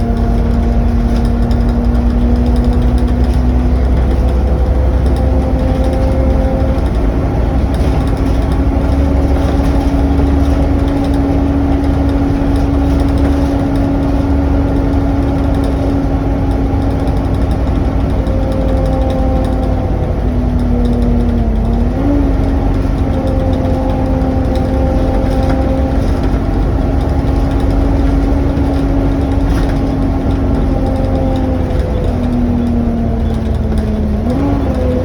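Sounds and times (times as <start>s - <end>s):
bus engine whine and rumble: 0.0s - 35.0s.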